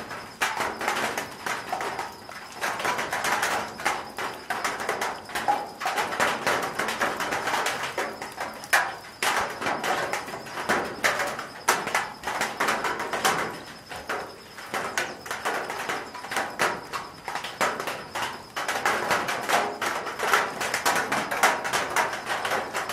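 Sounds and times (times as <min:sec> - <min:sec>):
rain on a metal roof: 0:00.0 - 0:22.9.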